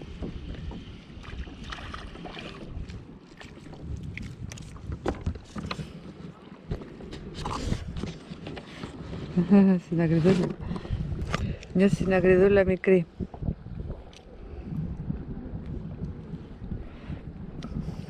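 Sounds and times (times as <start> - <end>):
water lapping around kayak: 0.0 - 18.0
wind buffeting microphone: 0.0 - 18.0.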